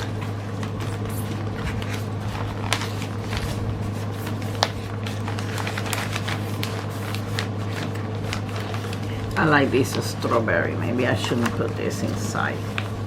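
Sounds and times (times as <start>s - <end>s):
plastic packaging crinkling: 0.0s - 13.0s
steady low hum: 0.0s - 13.0s.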